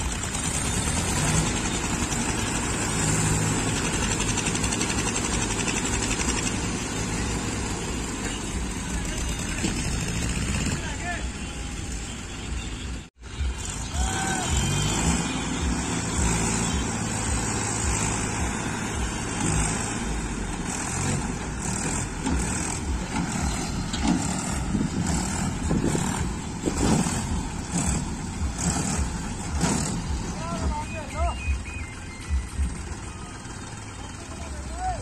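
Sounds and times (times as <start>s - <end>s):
diesel tractor engines running: 0.0s - 35.0s.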